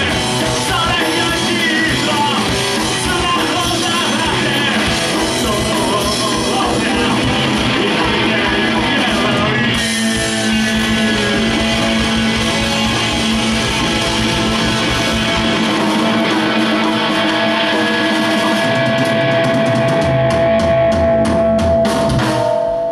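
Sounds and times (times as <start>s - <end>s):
electric guitar: 0.0s - 22.9s
fast drum hits: 0.0s - 22.9s.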